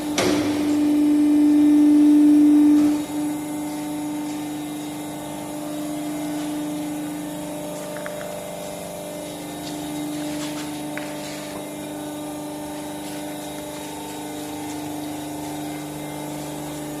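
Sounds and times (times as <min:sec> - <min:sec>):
press machine humming: 0:00.0 - 0:17.0.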